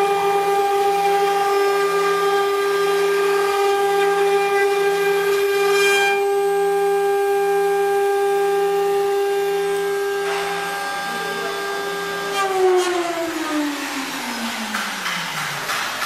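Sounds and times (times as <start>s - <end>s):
engraving machine spindle whine: 0.0s - 15.0s.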